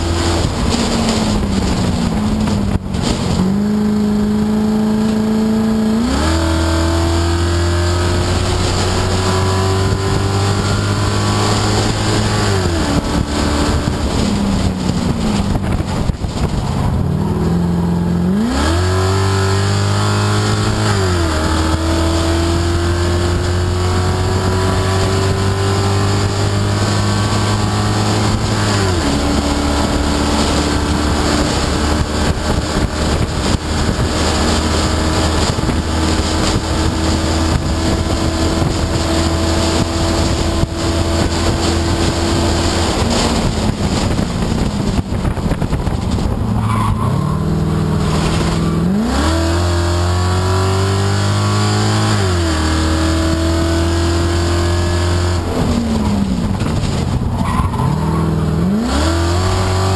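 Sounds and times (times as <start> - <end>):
race car engine revving: 0.0 - 59.9
wind rushing: 0.0 - 59.9.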